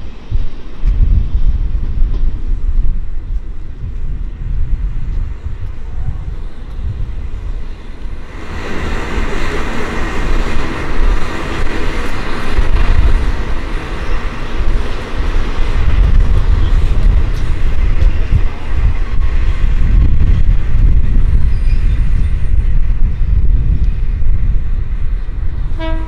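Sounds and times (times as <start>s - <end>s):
diesel railcar engine: 0.0s - 26.0s
rail rumble: 0.0s - 26.0s.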